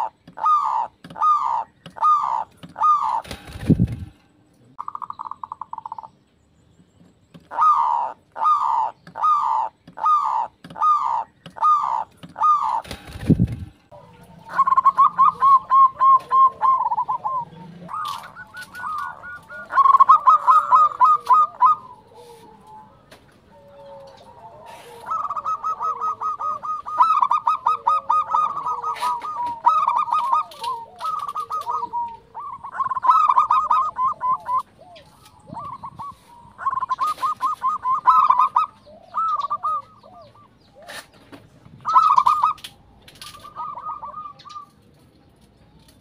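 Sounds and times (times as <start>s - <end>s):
dove cooing: 0.0s - 6.1s, 7.4s - 45.0s.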